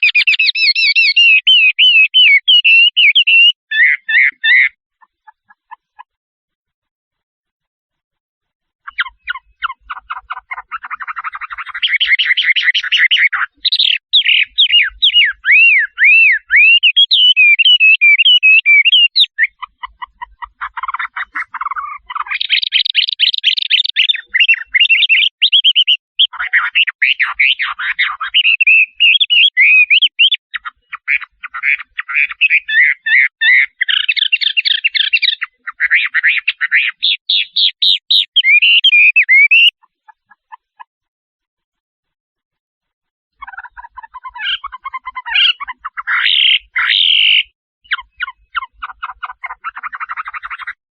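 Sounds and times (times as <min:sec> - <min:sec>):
bird singing varied song: 0:00.0 - 0:06.2, 0:08.8 - 0:40.9, 0:43.3 - 0:50.8.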